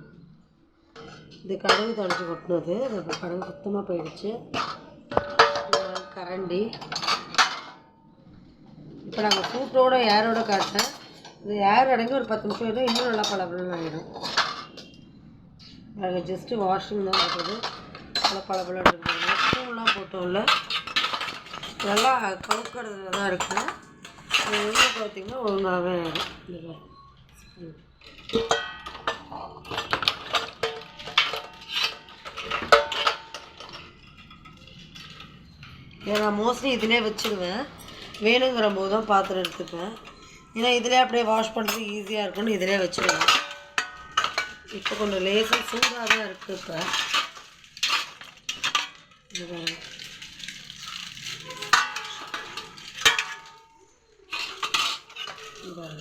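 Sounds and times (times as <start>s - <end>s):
metal utensils clattering: 0.9s - 7.9s, 9.0s - 15.8s, 16.4s - 56.0s
metal dishes clinking: 1.0s - 7.9s, 9.1s - 15.8s, 16.8s - 56.0s.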